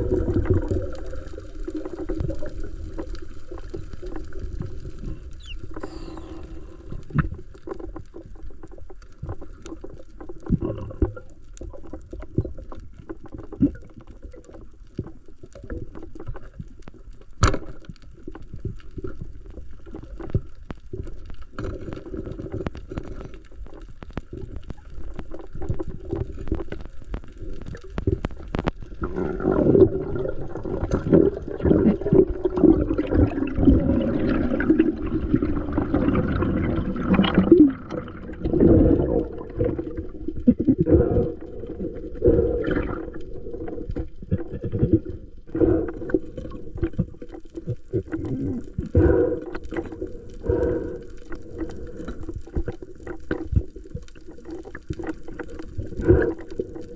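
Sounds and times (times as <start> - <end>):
muffled underwater bubbling: 0.0 - 56.9.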